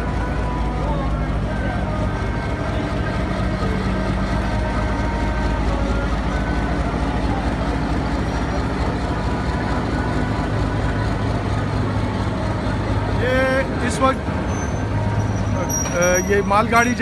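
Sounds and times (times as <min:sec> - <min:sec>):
diesel locomotive engine drone: 0:00.0 - 0:17.0
rumble of passing wagons: 0:00.0 - 0:17.0.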